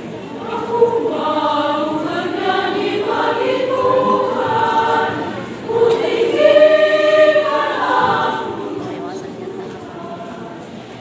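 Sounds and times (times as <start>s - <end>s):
women's choir singing: 0.0s - 11.0s.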